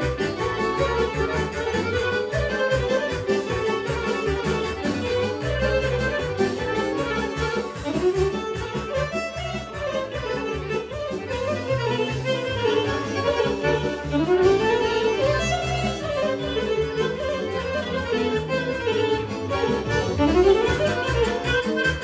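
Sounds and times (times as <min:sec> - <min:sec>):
steady bass beat: 0:00.0 - 0:22.0
wind instrument melody: 0:00.0 - 0:22.0.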